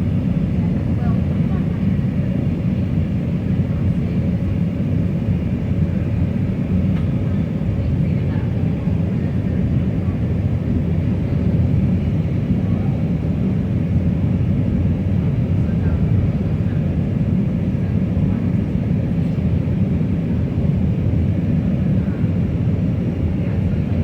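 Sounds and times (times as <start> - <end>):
airplane cabin engine roar: 0.0 - 24.0.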